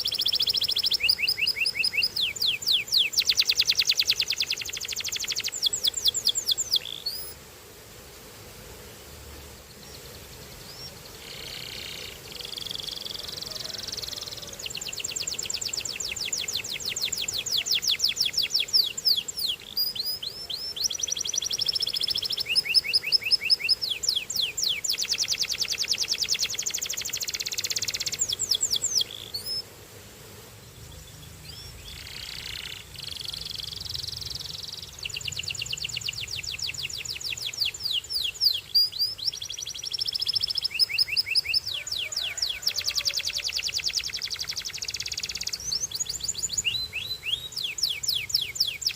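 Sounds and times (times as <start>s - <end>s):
canary singing trills: 0.0s - 7.4s, 9.8s - 29.6s, 30.9s - 48.9s.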